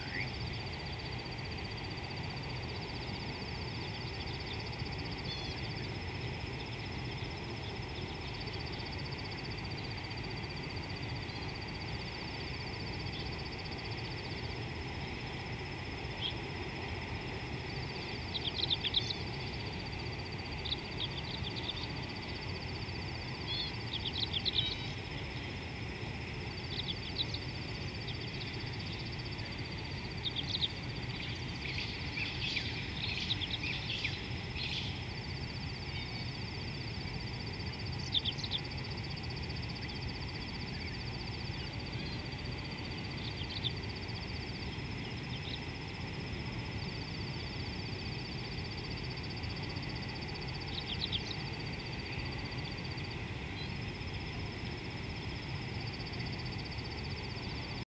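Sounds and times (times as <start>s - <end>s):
insects trilling: 0.0s - 57.8s.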